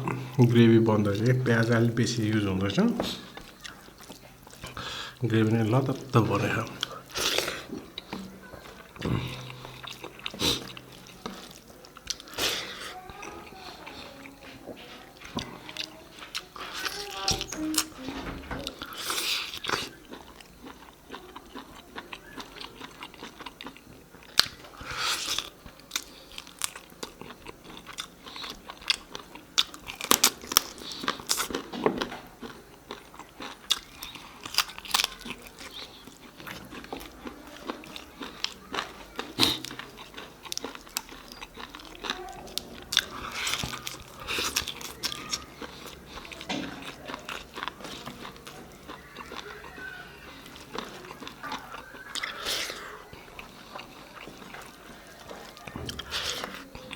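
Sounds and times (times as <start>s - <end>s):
person chewing and biting food: 3.0s - 5.2s, 6.0s - 18.0s, 18.6s - 56.9s.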